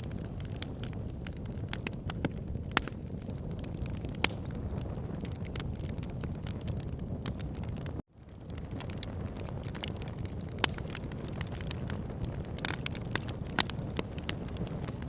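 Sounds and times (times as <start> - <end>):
fire rumbling in fireplace: 0.0 - 15.0
logs crackling and popping: 0.0 - 15.0.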